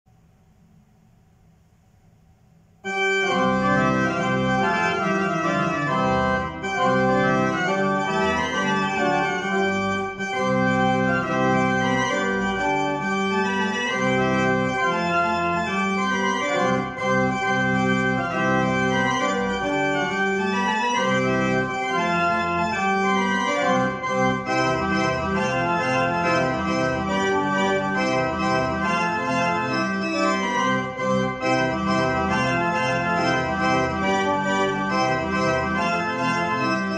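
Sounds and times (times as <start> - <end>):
pipe organ playing: 2.8 - 36.9.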